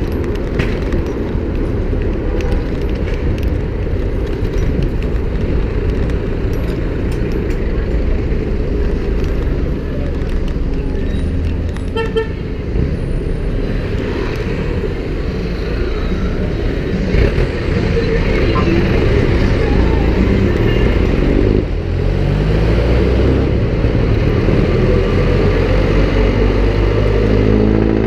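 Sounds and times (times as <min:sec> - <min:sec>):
car and motorcycle engines: 0:00.0 - 0:28.0
road noise: 0:00.0 - 0:28.0.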